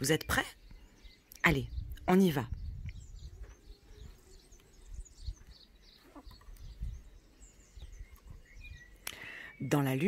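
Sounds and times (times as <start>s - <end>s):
birds chirping faintly: 0.0s - 10.0s.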